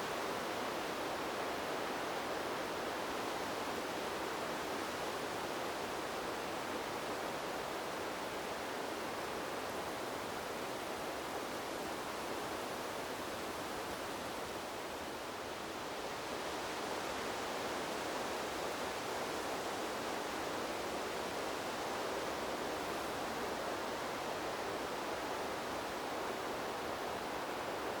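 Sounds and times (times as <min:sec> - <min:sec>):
wind rushing through bamboo leaves: 0:00.0 - 0:28.0.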